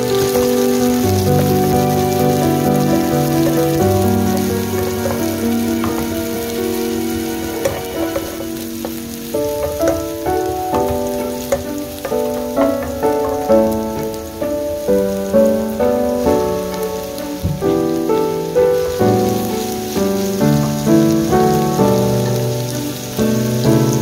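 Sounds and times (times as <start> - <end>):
background music: 0.0 - 24.0
onion sizzling in oil: 0.0 - 24.0
wooden spoon stirring in wok: 0.0 - 24.0.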